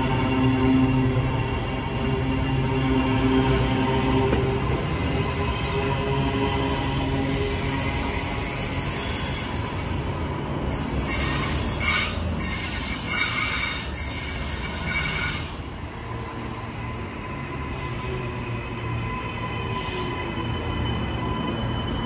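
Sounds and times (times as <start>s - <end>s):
train rumbling along track: 0.0s - 22.0s
train wheels squealing: 0.0s - 22.0s.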